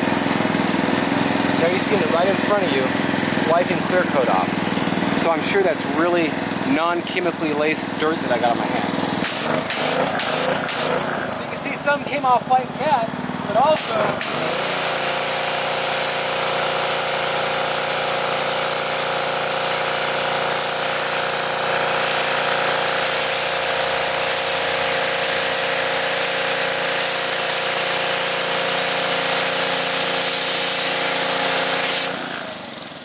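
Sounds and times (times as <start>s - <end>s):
pressure washer spray hissing: 0.0s - 32.8s
pressure washer motor running: 0.0s - 33.0s.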